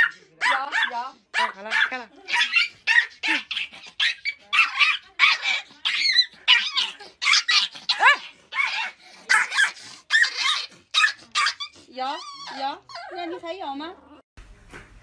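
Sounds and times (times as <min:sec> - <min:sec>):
dog barking and yipping: 0:00.0 - 0:13.3.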